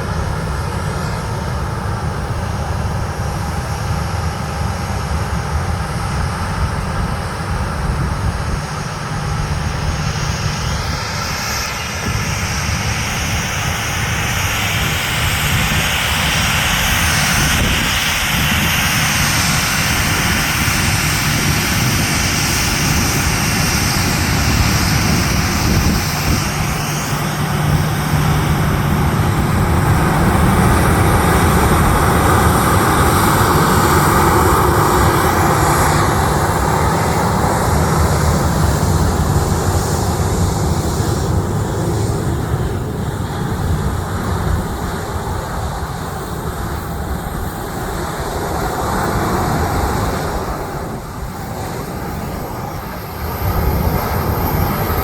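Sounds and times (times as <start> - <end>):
faint high whine: 0.0 - 55.0
jet engines running: 0.0 - 55.0.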